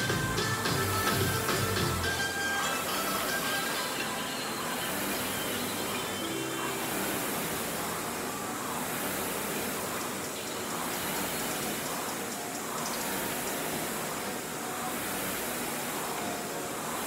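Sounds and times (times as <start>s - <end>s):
rowing machine fan whooshing: 0.0s - 17.0s.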